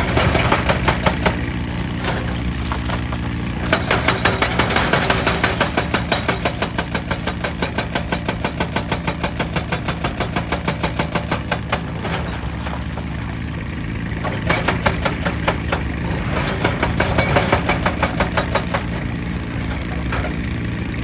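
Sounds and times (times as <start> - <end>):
diesel engine running: 0.0 - 21.0
hydraulic rock breaker hammering: 0.0 - 21.0.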